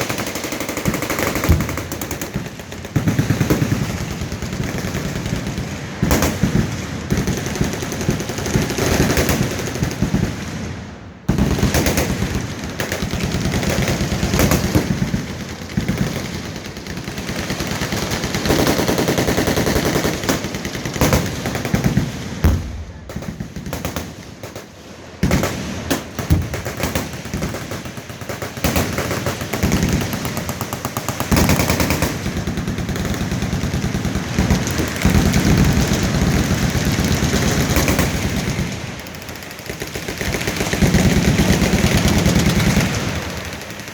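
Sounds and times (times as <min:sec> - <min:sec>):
machine guns firing bursts: 0:00.0 - 0:10.5, 0:11.3 - 0:43.9.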